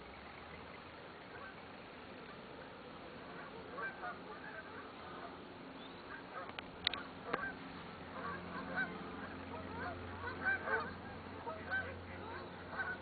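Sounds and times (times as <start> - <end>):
geese honking: 1.2 - 1.8, 2.7 - 13.0.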